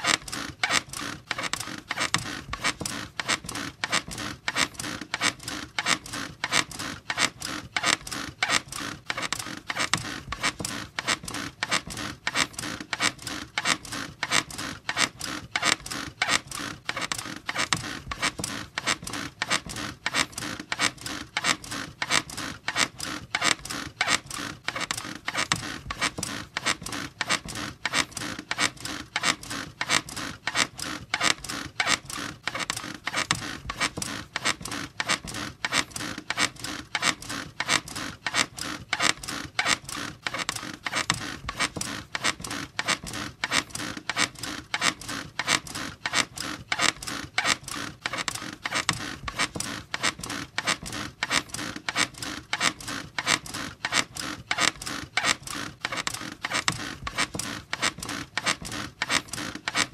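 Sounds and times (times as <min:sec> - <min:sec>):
bed squeaking rhythmically: 0:00.0 - 0:59.9.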